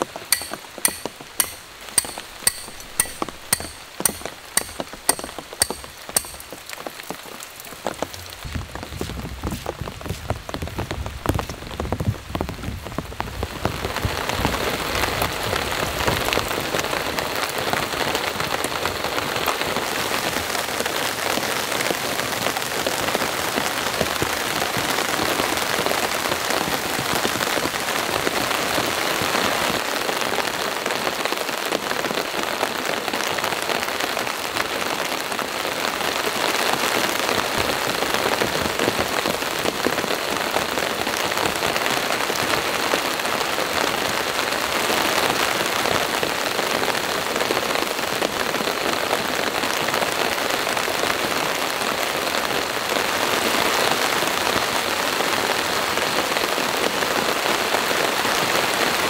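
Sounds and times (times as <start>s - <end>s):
heavy rain on a tarp: 0.0s - 2.0s, 4.0s - 59.0s.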